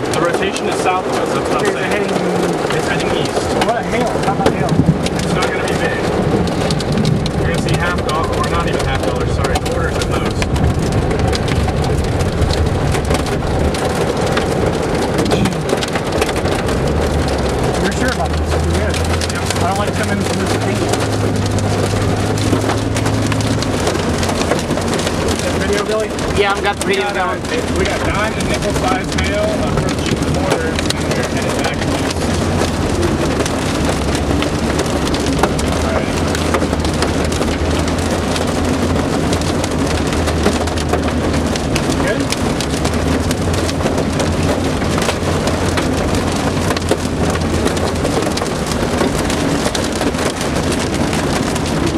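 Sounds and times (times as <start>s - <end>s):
hail and rain on car roof: 0.0s - 51.9s
low rumble of moving car: 0.0s - 51.9s.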